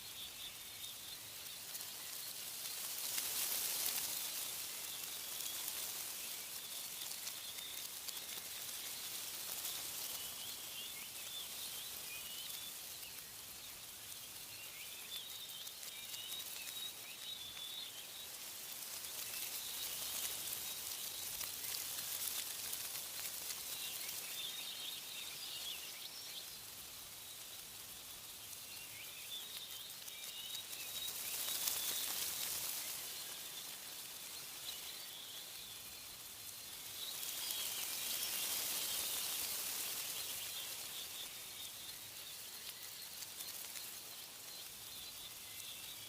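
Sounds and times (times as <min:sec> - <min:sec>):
small birds chirping: 0:00.0 - 0:46.0
wind rustling leaves: 0:00.0 - 0:46.0.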